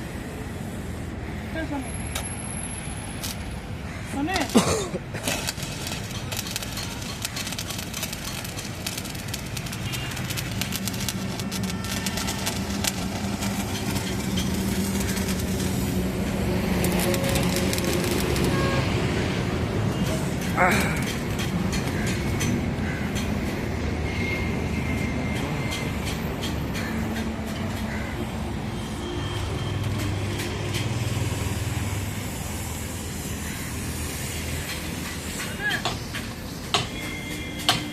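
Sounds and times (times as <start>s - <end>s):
vehicle engine rumbling: 0.0s - 37.9s
welding arc crackling: 2.0s - 27.9s, 28.5s - 37.9s.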